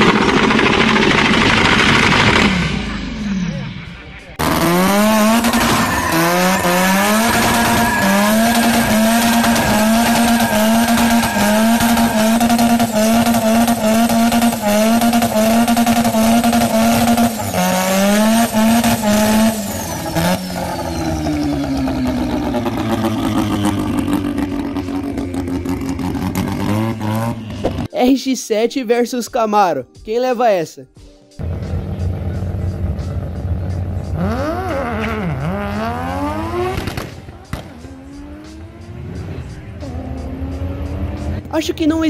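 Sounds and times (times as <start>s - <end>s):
rotary engine revving high: 0.0s - 27.9s, 31.4s - 41.5s.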